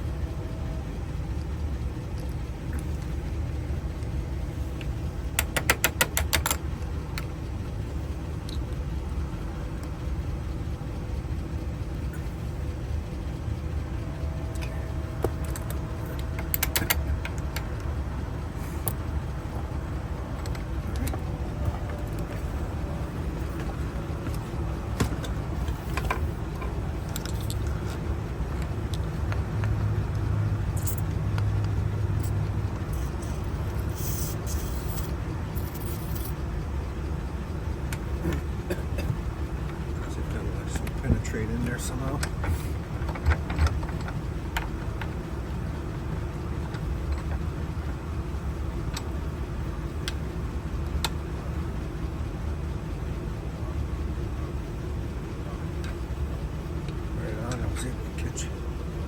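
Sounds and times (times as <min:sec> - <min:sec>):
steady low rumble: 0:00.0 - 0:59.0.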